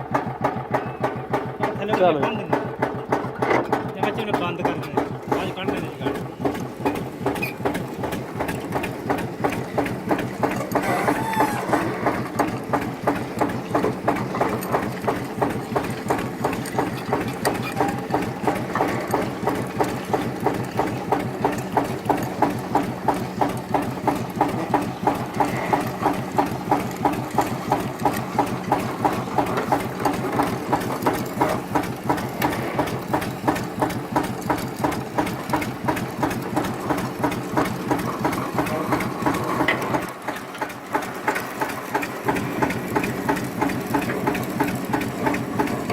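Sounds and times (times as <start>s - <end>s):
regular mechanical clatter: 0.0s - 45.9s
tractor engine running: 0.0s - 45.9s.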